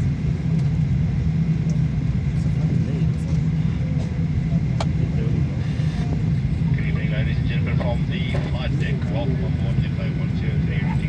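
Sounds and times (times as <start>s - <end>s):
cabin air-conditioning rumble: 0.0s - 11.0s
murmur of passengers' voices: 0.0s - 11.0s.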